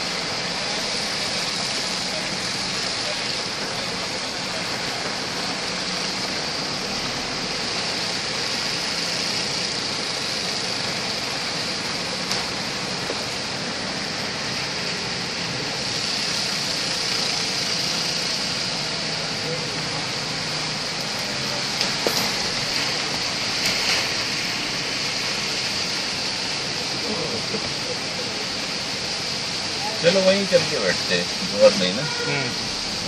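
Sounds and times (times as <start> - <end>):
car engine running low: 0.0 - 33.0
heavy rain on a car: 0.0 - 33.0.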